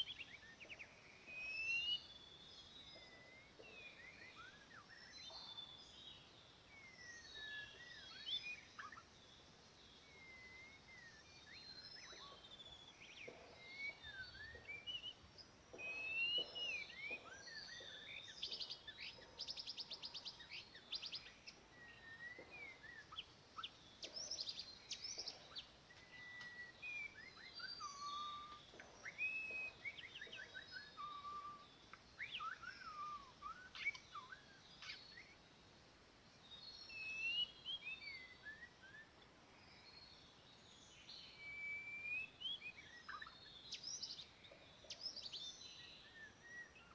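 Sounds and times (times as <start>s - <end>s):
songbird whistling song: 0.0s - 35.7s, 36.3s - 46.9s.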